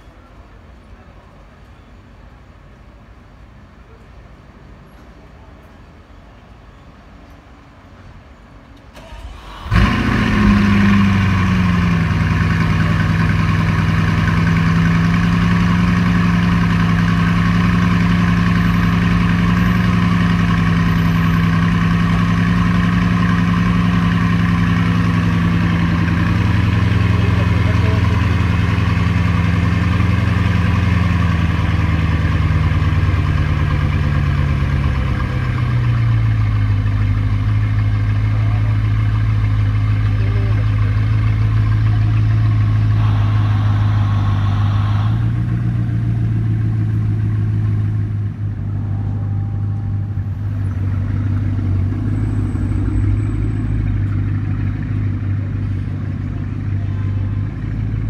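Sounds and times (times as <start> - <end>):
car engine idling: 8.8 - 58.0.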